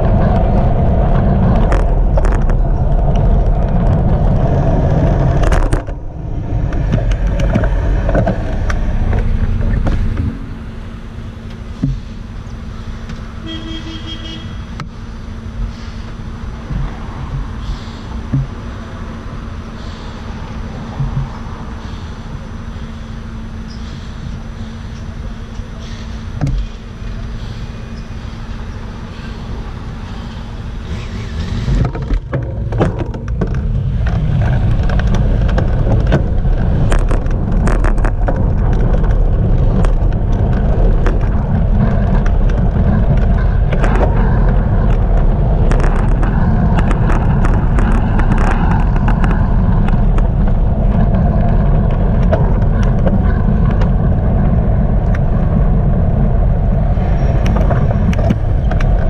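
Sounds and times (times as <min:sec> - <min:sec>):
car engine idling: 0:00.0 - 0:59.0
road noise: 0:00.0 - 0:59.0
wind rumbling on microphone: 0:00.0 - 0:59.0.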